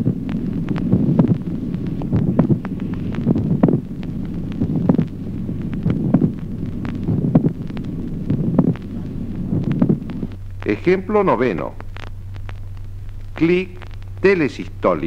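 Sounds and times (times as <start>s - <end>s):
heartbeat through stethoscope: 0.0s - 14.3s
steady low hum: 0.0s - 15.0s.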